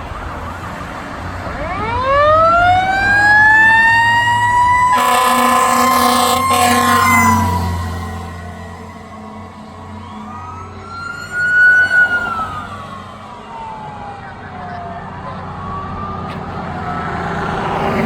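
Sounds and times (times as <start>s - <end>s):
fire engine siren wailing: 0.0s - 18.0s
vehicle engine rumble: 0.0s - 18.0s.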